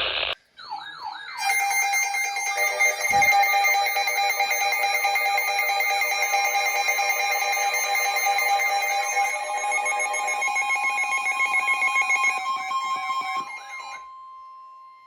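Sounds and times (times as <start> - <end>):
warbling electronic alarm: 0.6 - 15.0.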